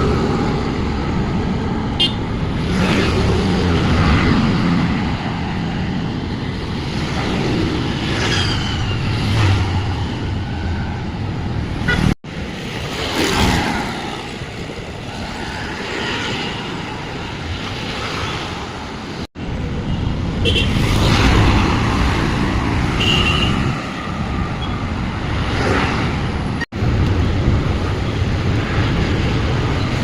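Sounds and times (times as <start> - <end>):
road traffic: 0.0 - 30.0.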